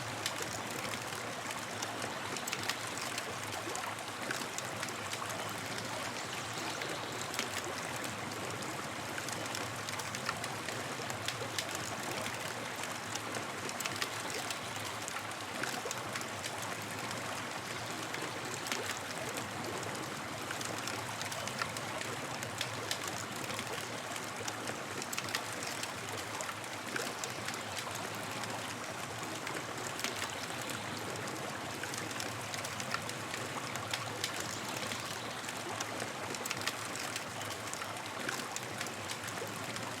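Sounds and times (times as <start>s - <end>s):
campfire crackling and hissing: 0.0s - 40.0s.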